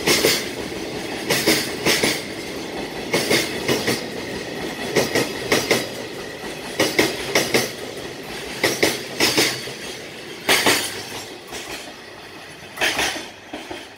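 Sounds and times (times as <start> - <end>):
train rolling noise: 0.0 - 13.9
train wheels clattering over rail joints: 0.0 - 13.9.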